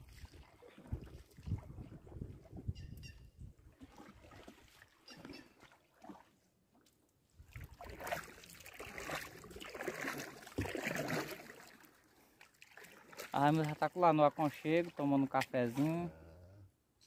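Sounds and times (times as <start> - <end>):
water splashing around canoe: 0.0 - 2.9, 3.5 - 16.0.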